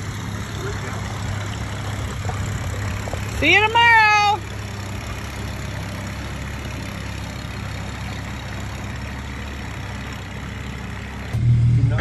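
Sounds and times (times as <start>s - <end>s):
engine running low hum: 0.0s - 12.0s.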